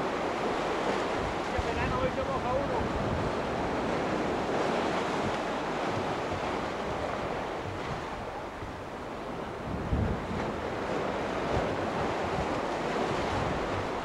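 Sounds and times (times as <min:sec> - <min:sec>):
waves breaking against rocks: 0:00.0 - 0:14.0
wind buffeting microphone: 0:00.0 - 0:14.0.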